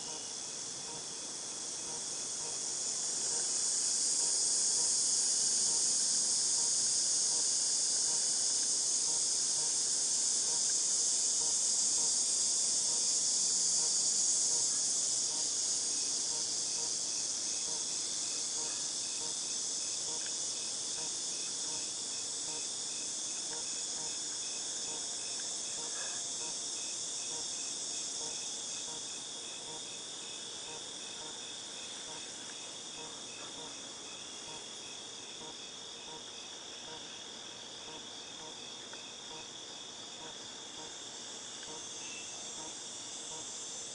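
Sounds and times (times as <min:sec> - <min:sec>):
cicadas buzzing in chorus: 0:00.0 - 0:43.9
pulsed insect call: 0:00.0 - 0:43.9.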